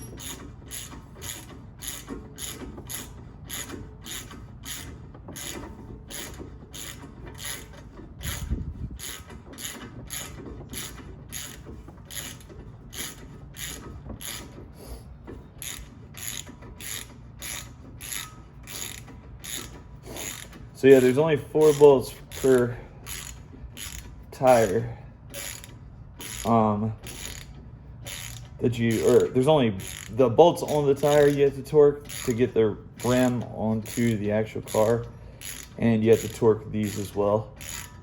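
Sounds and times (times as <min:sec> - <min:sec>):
ratchet wrench clicking: 0:00.0 - 0:14.6, 0:15.6 - 0:38.0.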